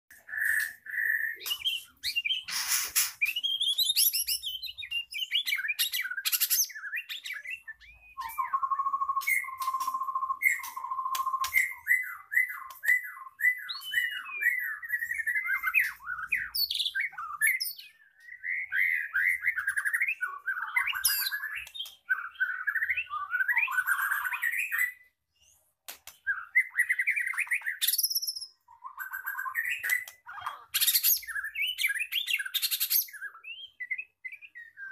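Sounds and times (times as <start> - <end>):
songbird singing whistles and rattles: 0.1 - 34.9.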